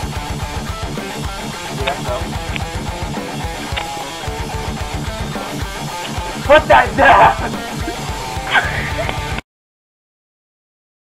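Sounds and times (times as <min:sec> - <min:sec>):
background music: 0:00.0 - 0:09.4.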